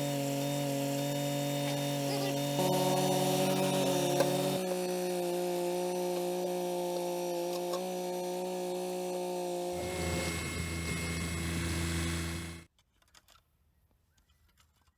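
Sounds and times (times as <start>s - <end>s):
tractor diesel engine running: 0.0s - 12.7s.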